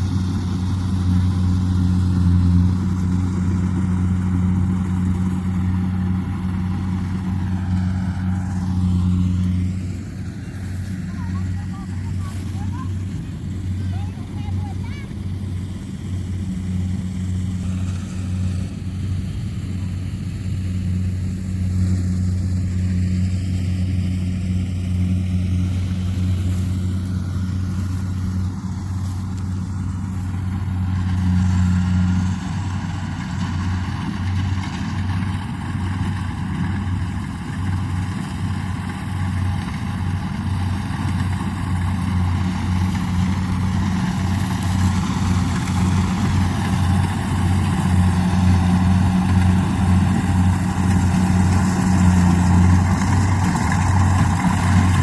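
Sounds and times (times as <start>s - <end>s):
diesel engine humming: 0.0s - 55.0s
harvester machinery noise: 0.0s - 55.0s.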